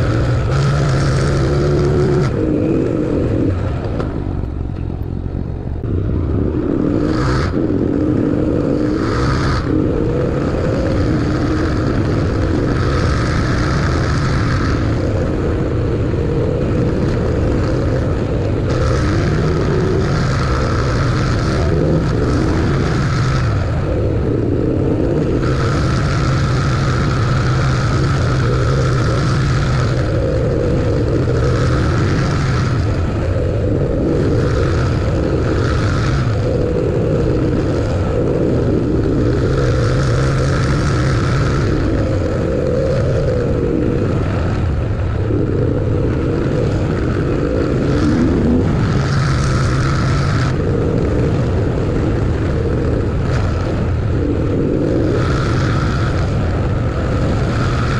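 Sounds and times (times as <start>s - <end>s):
road and tyre noise: 0.0s - 57.9s
vehicle engine drone: 0.0s - 57.9s.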